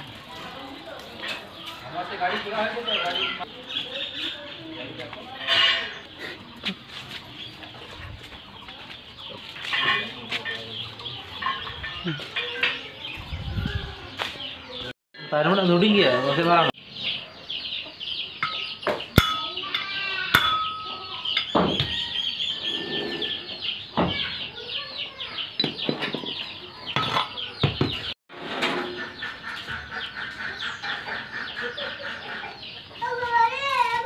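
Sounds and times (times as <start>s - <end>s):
chickens clucking and cheeping: 0.0s - 34.0s.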